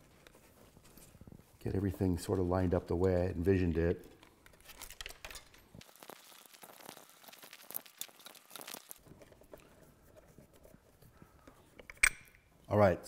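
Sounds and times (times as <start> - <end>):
wires rustling: 0.0 - 12.7.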